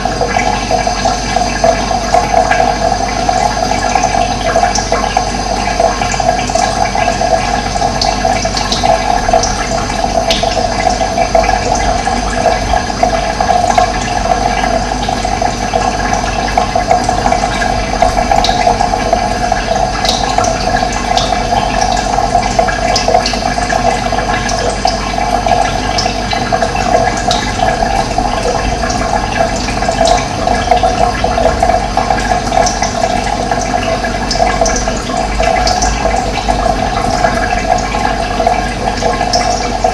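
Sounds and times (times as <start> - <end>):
water rushing: 4.8 - 39.9.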